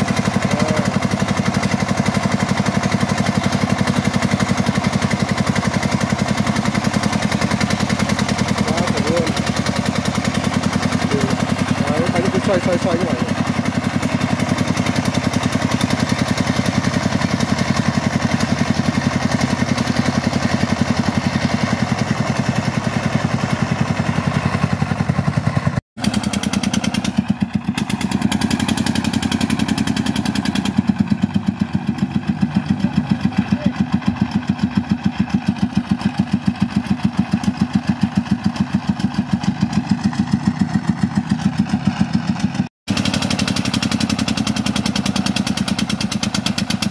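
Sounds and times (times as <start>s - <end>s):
diesel engine chugging under load: 0.0s - 46.9s.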